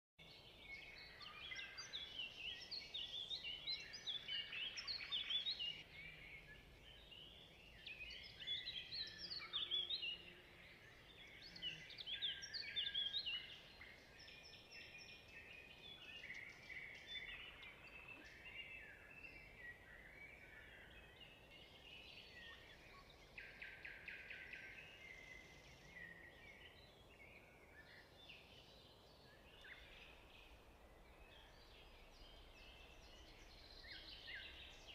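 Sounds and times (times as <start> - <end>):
birds chirping and singing: 0.3 - 34.9.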